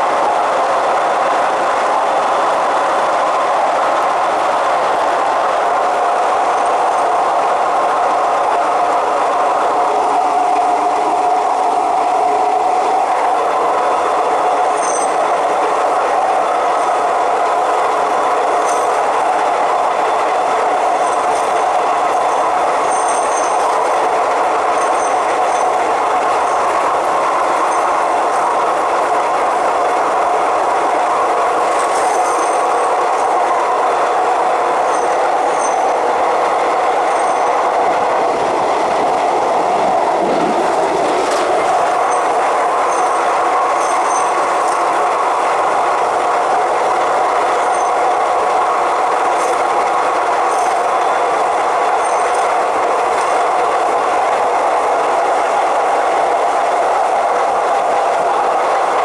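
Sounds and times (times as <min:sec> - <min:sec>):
electric train running with whine: 0:00.0 - 0:59.0.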